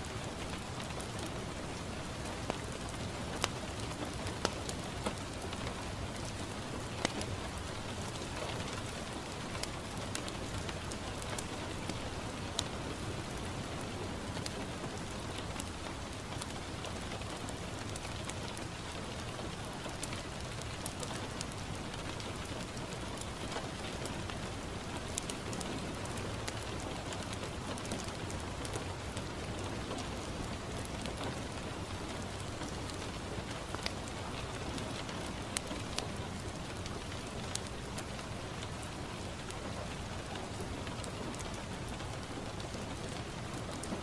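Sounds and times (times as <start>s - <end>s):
rain on a window: 0.0s - 44.0s
wood fire crackling: 0.0s - 44.0s.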